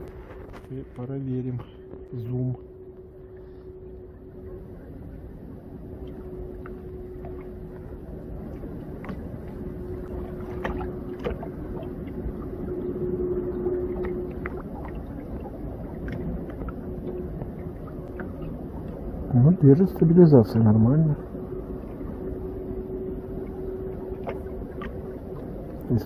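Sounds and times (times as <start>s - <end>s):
faint steady hum: 0.0s - 26.0s
low wind rumble: 0.0s - 26.0s
waves lapping against boat hull: 0.0s - 26.0s.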